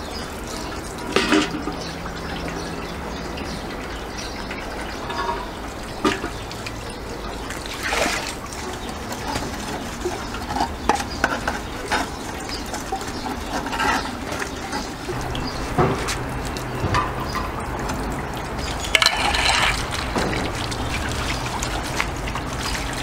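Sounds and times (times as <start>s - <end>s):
water running from tap: 0.0s - 23.0s.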